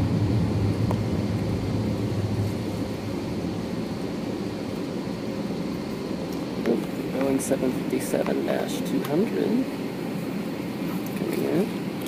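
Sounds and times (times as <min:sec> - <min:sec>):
jet airliner taking off rumble: 0:00.0 - 0:12.0.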